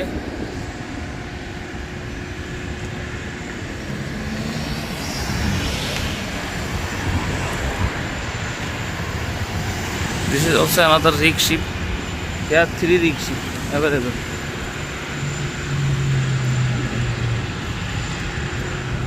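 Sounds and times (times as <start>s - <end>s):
low rumble of vehicles: 0.0s - 19.0s.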